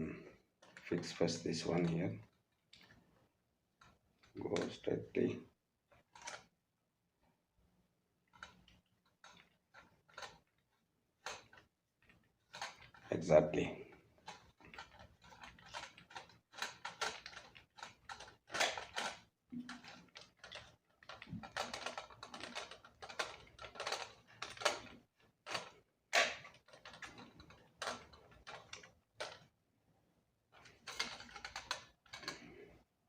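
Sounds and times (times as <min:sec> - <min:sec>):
plastic parts clicking and tapping: 0:00.6 - 0:03.0, 0:03.8 - 0:05.0, 0:05.9 - 0:06.5, 0:08.2 - 0:13.2, 0:13.8 - 0:29.5, 0:30.5 - 0:32.8.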